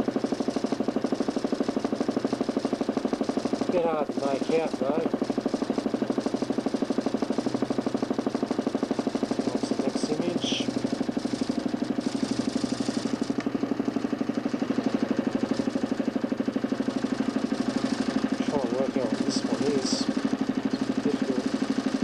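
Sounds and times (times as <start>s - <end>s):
motor and spinning disc whirring: 0.0s - 22.0s.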